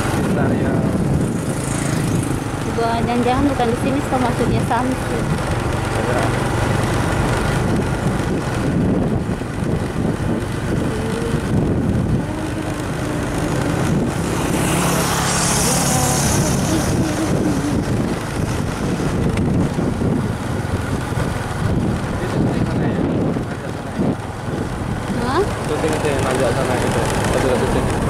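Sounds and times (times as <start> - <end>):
road and wind noise: 0.0 - 28.0
vehicle engine running: 0.0 - 28.0.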